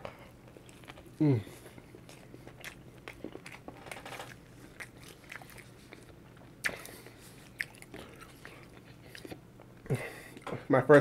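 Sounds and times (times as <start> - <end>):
person chewing with wet mouth clicks: 0.5 - 9.7.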